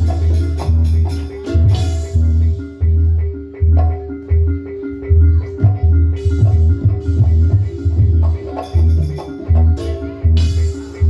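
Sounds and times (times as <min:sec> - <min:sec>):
deep drum beats: 0:00.0 - 0:11.0
tuned metal mallet instruments: 0:00.0 - 0:11.0.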